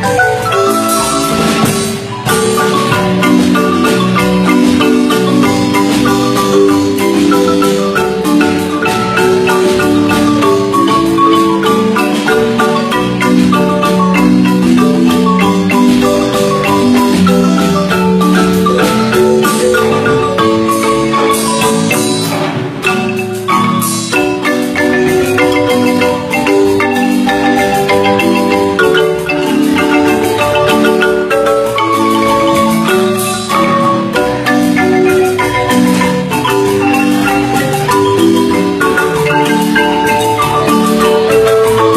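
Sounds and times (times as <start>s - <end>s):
marimba music: 0.0s - 41.9s.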